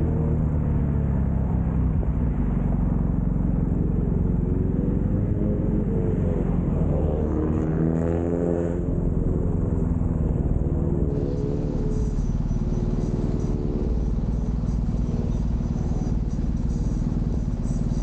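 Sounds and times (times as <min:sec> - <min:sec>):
motorcycle engine running: 0:00.0 - 0:07.8, 0:08.6 - 0:18.0
road and wind rumble: 0:00.0 - 0:18.0.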